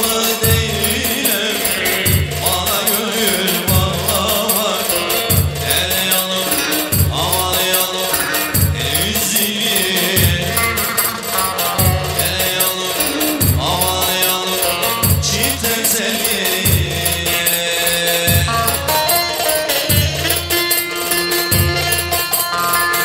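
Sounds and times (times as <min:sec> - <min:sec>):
fast percussion rhythm: 0:00.0 - 0:23.0
folk dance music on lute: 0:00.0 - 0:23.0
deep low beat: 0:00.4 - 0:01.2, 0:01.9 - 0:17.5, 0:18.2 - 0:20.6.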